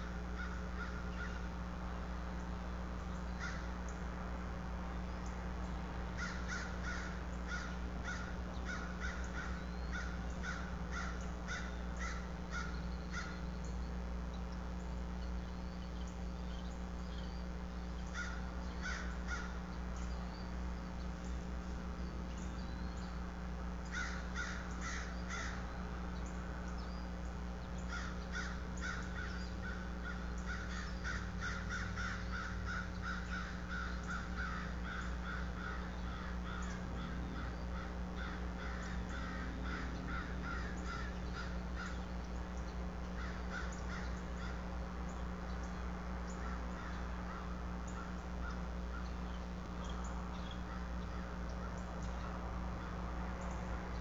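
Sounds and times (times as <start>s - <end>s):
birds calling: 0.0s - 54.0s
low electrical hum: 0.0s - 54.0s.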